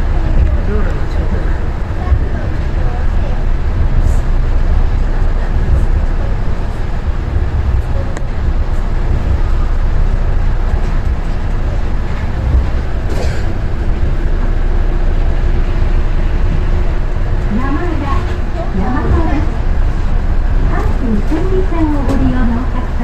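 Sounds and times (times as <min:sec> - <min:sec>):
steady hum: 0:00.0 - 0:23.0
train tyres rumbling: 0:00.0 - 0:23.0.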